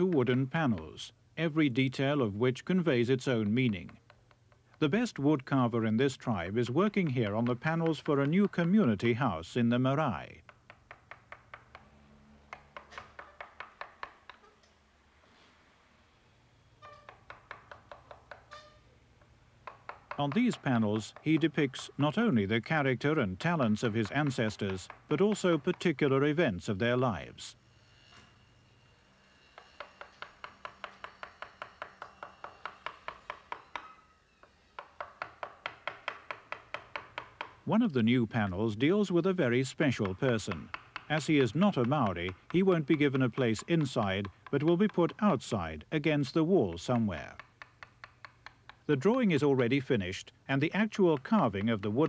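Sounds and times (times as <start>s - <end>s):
mallet tapping chisel into wood: 0.0s - 1.0s, 2.6s - 14.4s, 17.0s - 26.7s, 29.6s - 37.8s, 39.5s - 49.9s, 50.6s - 52.0s.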